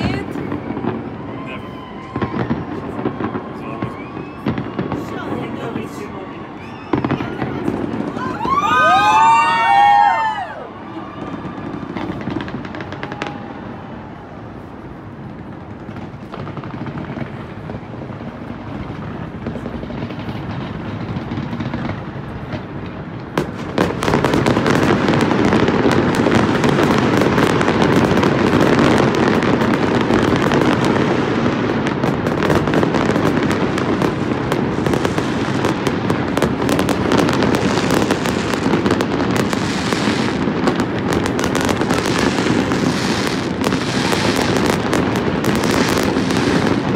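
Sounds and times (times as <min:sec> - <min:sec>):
crackling firework bangs: 0:00.0 - 0:46.9
fireworks bursting: 0:00.0 - 0:46.9.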